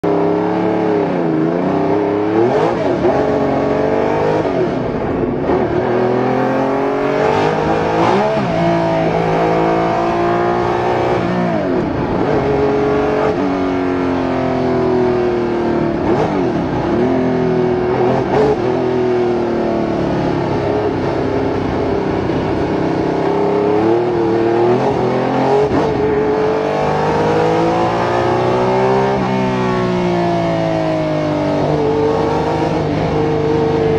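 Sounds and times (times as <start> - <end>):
racing engine revving at speed: 0.0 - 33.9.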